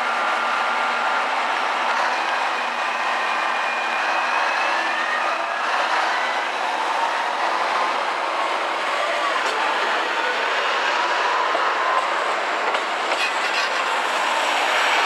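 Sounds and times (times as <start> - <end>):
diesel railcar engine: 0.0 - 15.0.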